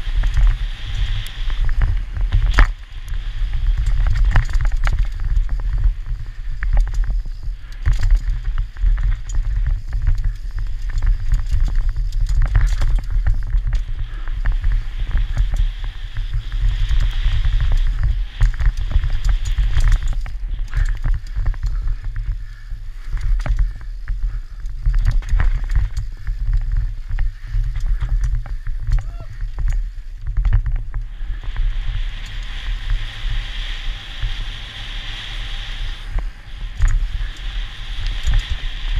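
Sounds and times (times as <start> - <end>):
bike rattling and knocking: 0.0 - 33.4
tyre hiss on loose dirt: 0.0 - 38.9
wind rumble on microphone: 0.0 - 38.9.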